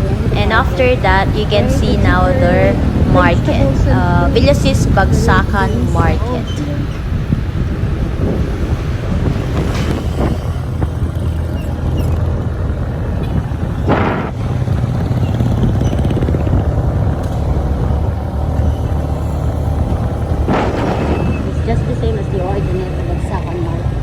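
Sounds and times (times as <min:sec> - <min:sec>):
scooter road noise: 0:00.0 - 0:24.0
wind rushing over microphone: 0:00.0 - 0:24.0.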